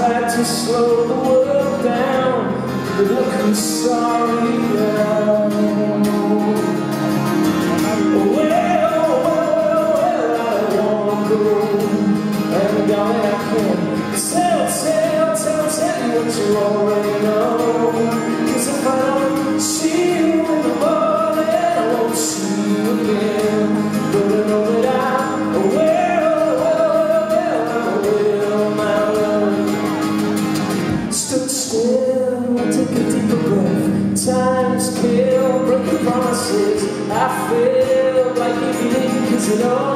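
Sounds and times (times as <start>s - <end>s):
man singing: 0.0s - 30.2s, 30.9s - 39.9s
acoustic guitar: 0.0s - 39.9s.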